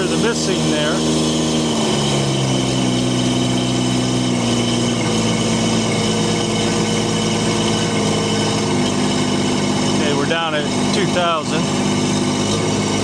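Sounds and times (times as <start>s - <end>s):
engine running with misfire: 0.0s - 13.0s.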